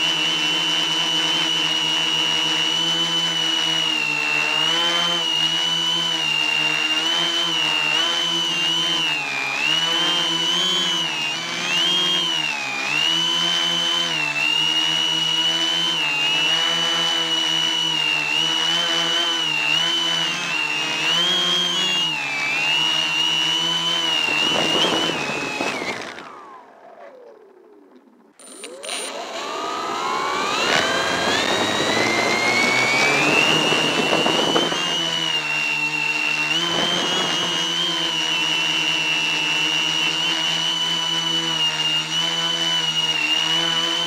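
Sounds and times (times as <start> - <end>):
quadcopter propellers whining: 0.0 - 44.0.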